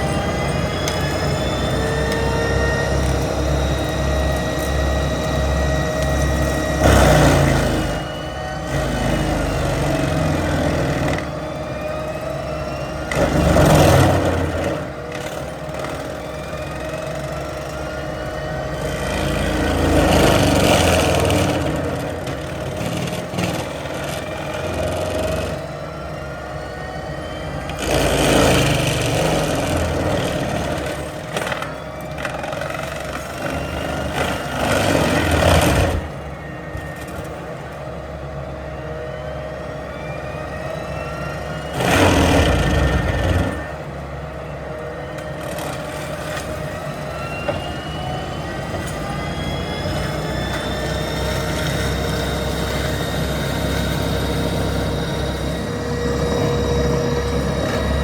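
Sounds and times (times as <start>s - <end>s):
diesel engine running: 0.0s - 58.0s
rising hydraulic whines: 0.0s - 58.0s.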